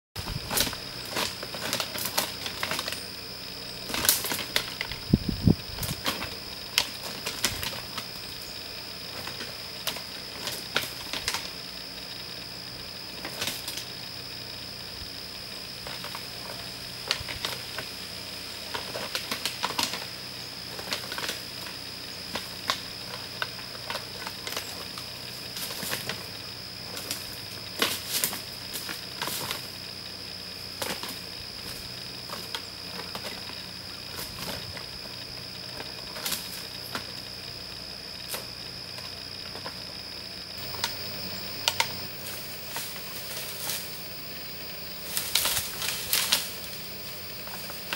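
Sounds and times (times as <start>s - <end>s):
leaf rustle: 0.2s - 47.9s.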